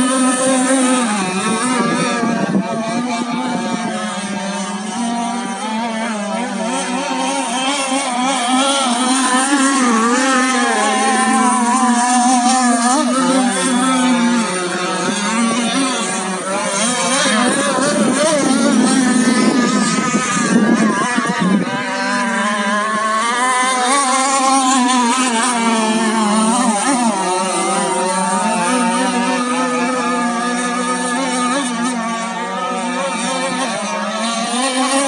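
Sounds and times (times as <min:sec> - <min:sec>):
racing boat engines at high revs: 0:00.0 - 0:35.0.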